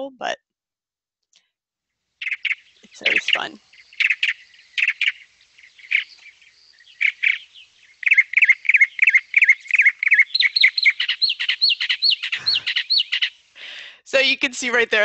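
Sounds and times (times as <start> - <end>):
mockingbird singing: 2.2 - 15.0.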